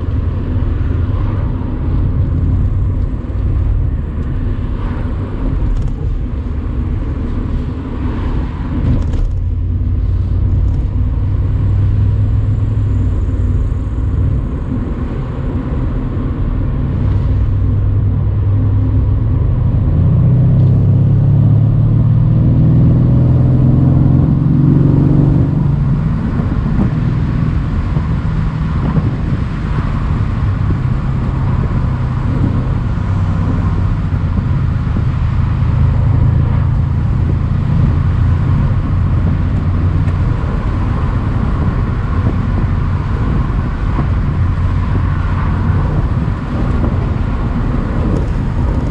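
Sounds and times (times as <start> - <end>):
car engine running: 0.0 - 48.9
tyre and wind noise: 0.0 - 48.9.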